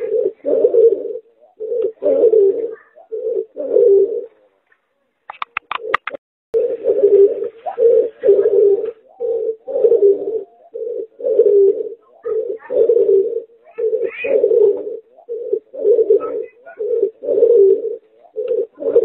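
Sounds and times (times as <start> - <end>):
dove cooing: 0.0 - 4.6, 5.3 - 19.0.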